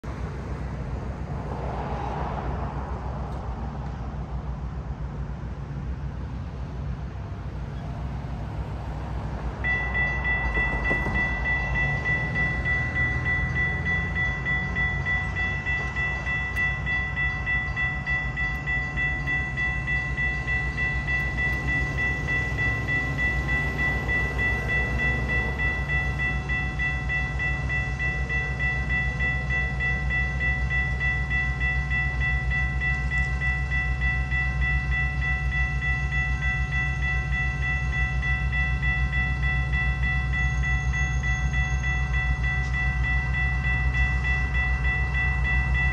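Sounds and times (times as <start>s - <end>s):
railroad crossing bell ringing: 7.5s - 45.9s.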